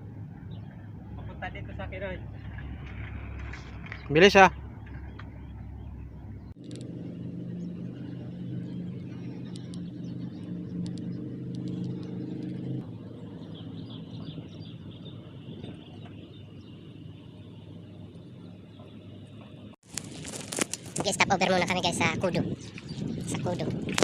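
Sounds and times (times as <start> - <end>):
faint road noise: 0.0 - 24.0
vehicle engine running: 0.0 - 24.0.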